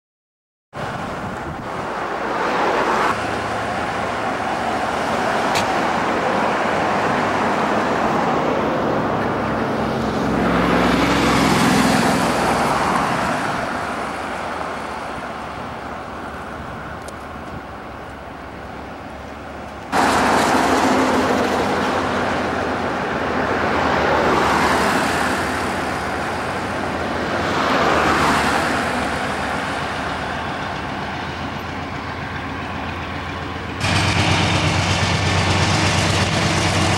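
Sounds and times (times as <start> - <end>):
vehicles passing on highway: 0.8 - 36.9.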